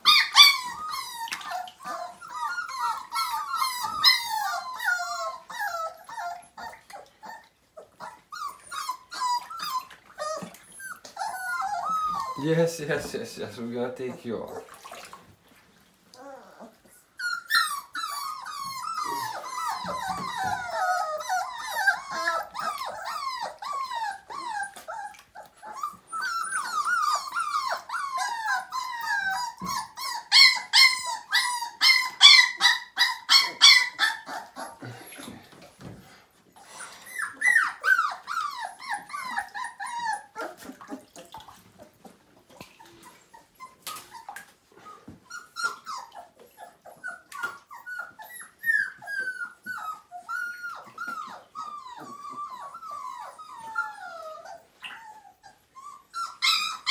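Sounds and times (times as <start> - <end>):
puppies yelping: 0.0 - 12.7, 16.2 - 35.4, 36.5 - 42.2, 42.8 - 56.9
puppies whining and crying: 0.0 - 13.2, 14.1 - 56.9.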